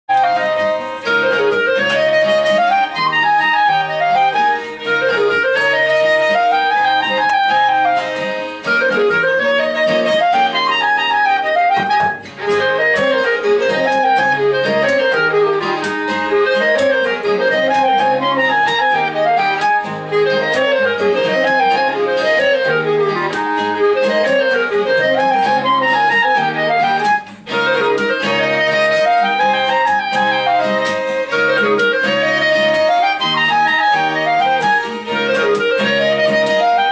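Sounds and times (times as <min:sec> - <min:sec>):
acoustic guitar: 0:00.1 - 0:36.9
clarinet: 0:00.1 - 0:36.9
violin: 0:00.1 - 0:36.9.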